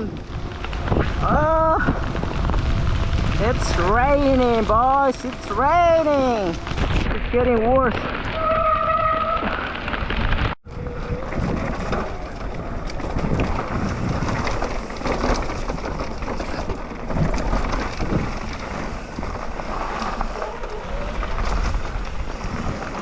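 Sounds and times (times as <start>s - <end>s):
wind buffeting microphone: 0.0s - 8.4s, 10.2s - 23.0s
bike rattles and clicks: 0.0s - 23.0s
rush of bike ride: 0.0s - 23.0s.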